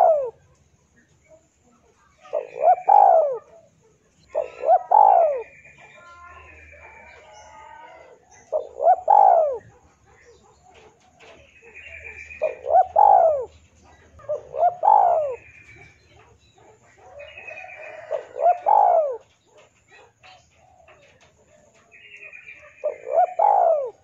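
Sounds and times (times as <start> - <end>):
birds chirping faintly: 0.0 - 24.0
dove cooing: 0.0 - 24.0.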